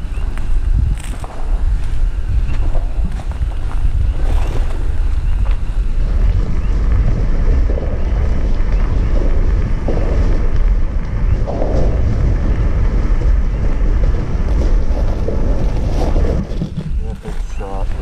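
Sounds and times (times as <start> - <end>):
lava fissure rumbling roar: 0.0 - 18.0
wind buffeting microphone: 0.0 - 18.0.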